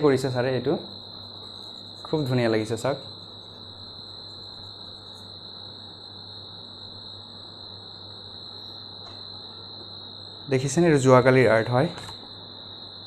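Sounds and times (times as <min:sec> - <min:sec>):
faint low hum: 0:00.0 - 0:13.0
high-pitched whine: 0:00.0 - 0:13.0.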